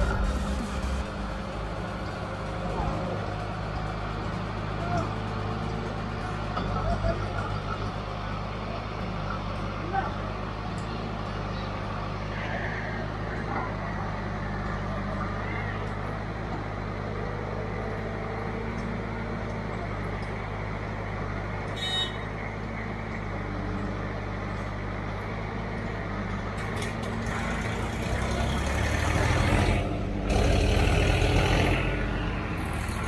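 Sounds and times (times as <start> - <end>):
diesel engines running: 0.0 - 33.0.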